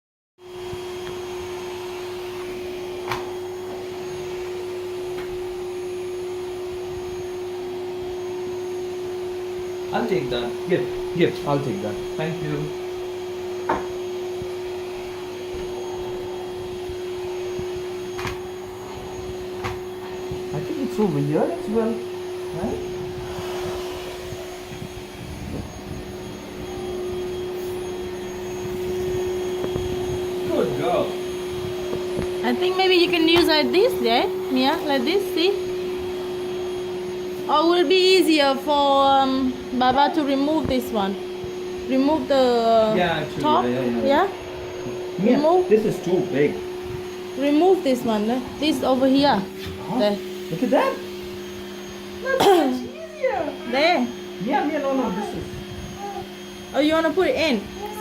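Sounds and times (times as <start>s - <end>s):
vacuum cleaner running: 0.4s - 58.0s.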